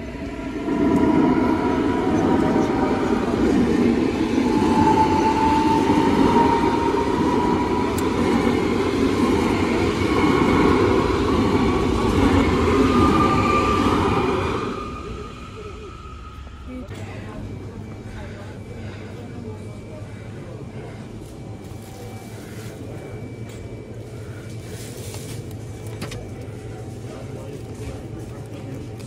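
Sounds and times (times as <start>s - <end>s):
rail vehicle rumble: 0.0s - 29.0s.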